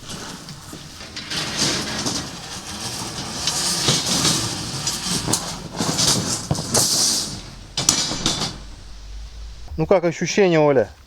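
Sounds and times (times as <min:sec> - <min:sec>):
steel rebar rattling and clinking: 0:00.0 - 0:09.8.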